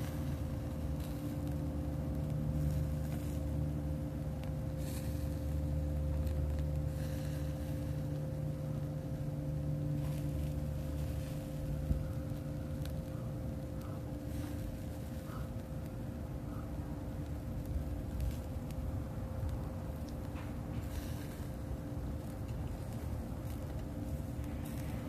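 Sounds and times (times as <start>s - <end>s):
steady low drone: 0.0s - 25.0s.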